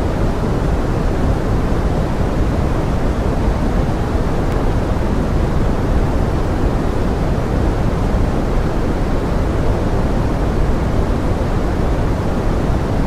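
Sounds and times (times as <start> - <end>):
pink noise: 0.0 - 13.0
rain in a forest: 0.2 - 12.8.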